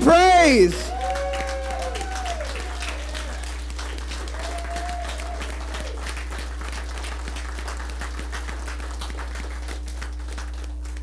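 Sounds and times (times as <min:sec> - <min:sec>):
crowd applauding: 0:00.0 - 0:11.0
low electrical hum: 0:00.0 - 0:11.0.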